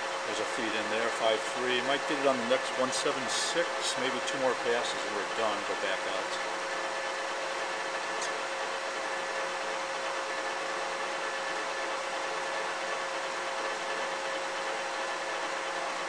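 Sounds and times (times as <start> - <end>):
lathe mechanical hum: 0.0 - 16.0
lathe whine: 0.0 - 16.0.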